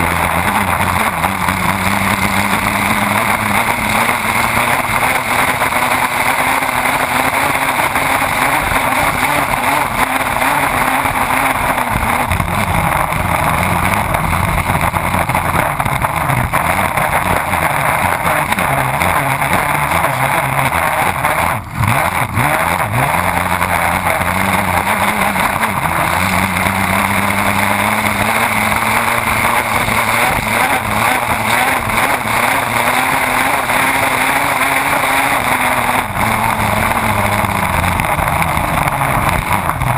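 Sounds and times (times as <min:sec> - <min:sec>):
race boat engine at full speed: 0:00.0 - 0:39.9.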